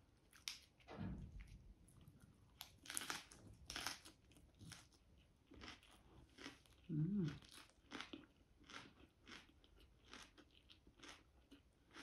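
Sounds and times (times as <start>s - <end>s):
chewing and crunching lettuce: 0.1s - 12.0s.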